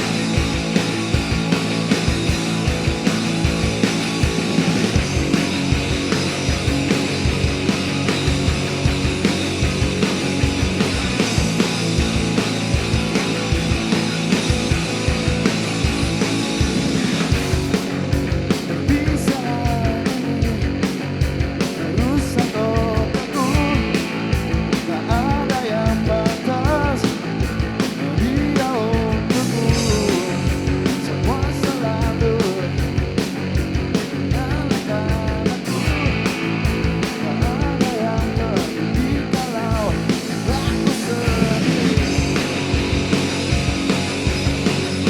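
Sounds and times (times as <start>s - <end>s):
fast drum beat: 0.0s - 45.0s
rock band playing live: 0.0s - 45.0s.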